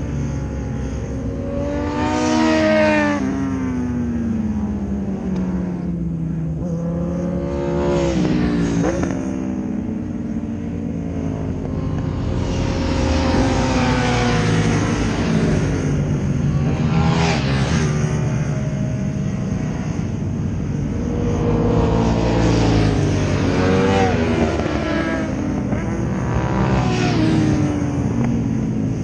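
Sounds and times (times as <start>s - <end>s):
motorcycles passing at high speed: 0.0s - 29.0s.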